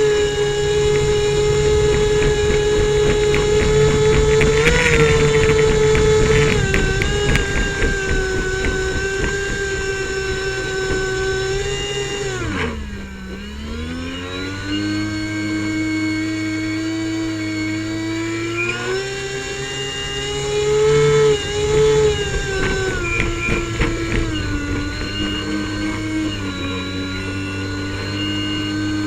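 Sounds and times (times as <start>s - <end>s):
airboat engine and propeller: 0.0s - 29.0s.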